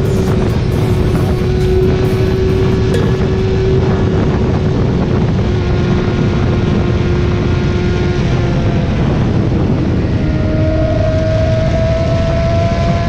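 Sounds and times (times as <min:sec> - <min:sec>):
motorcycle engine drone: 0:00.0 - 0:13.0
road and wind rush: 0:00.0 - 0:13.0.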